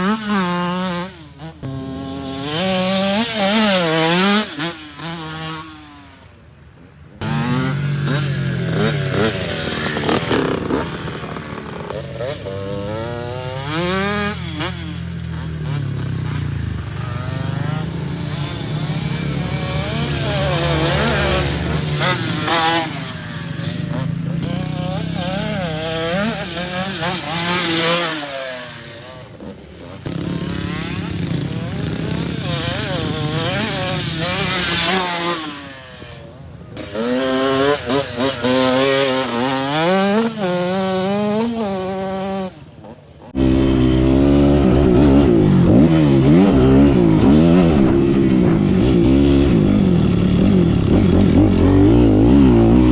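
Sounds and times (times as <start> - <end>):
dirt bike engine revving: 0.0 - 6.4, 7.2 - 52.9.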